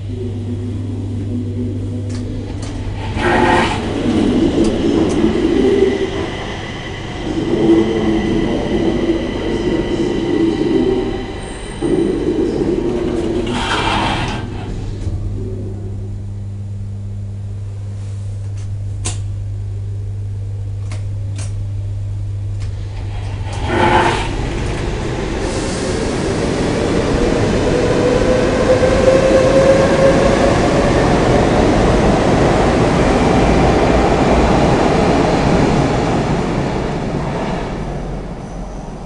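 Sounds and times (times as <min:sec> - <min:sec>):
metro train accelerating: 0:00.0 - 0:39.0
steady low hum: 0:00.0 - 0:39.0.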